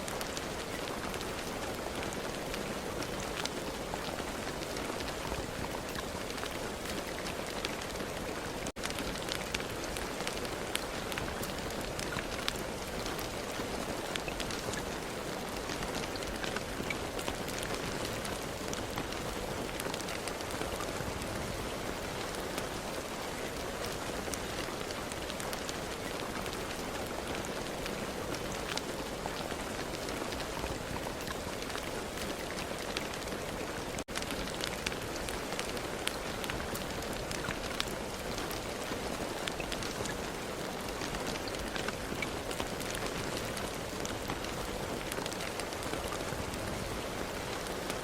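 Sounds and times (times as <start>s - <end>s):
steady rain pattering: 0.0s - 48.0s.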